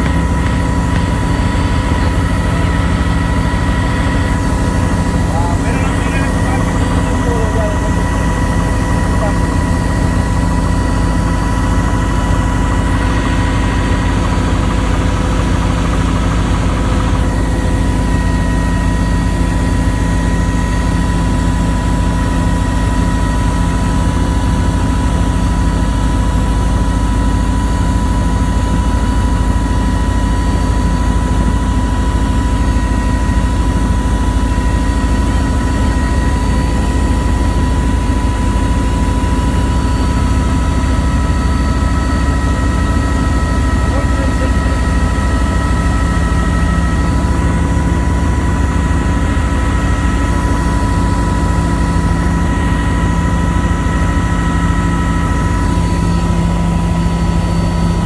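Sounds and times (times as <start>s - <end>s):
helicopter rotor and engine drone: 0.0s - 58.0s
high whine: 0.0s - 58.0s.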